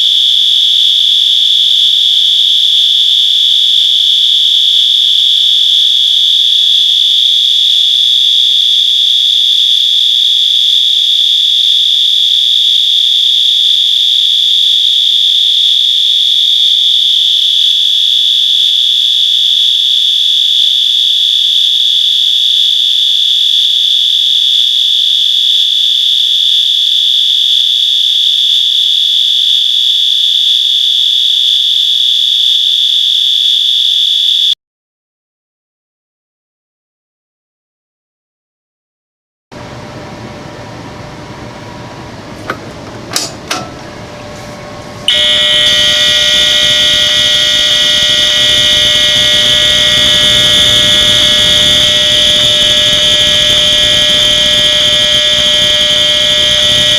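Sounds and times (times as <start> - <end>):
fire alarm high-pitched tone: 0.0 - 34.6, 45.0 - 56.9.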